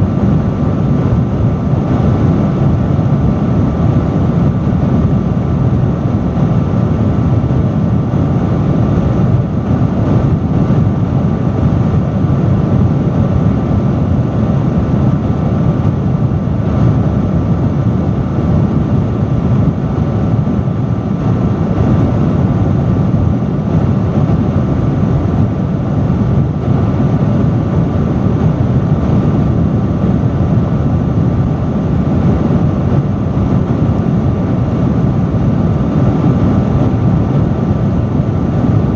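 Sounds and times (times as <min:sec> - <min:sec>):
faint motor hum: 0:00.0 - 0:38.9
industrial fan rushing air: 0:00.0 - 0:38.9.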